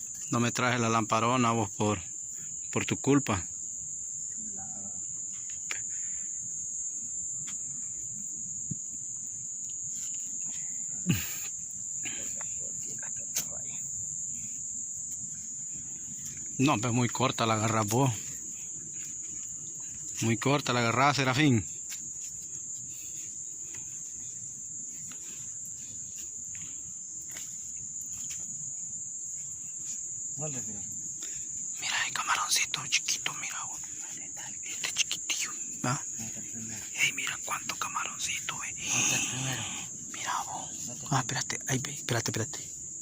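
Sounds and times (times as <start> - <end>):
crickets chirping: 0.0 - 43.0.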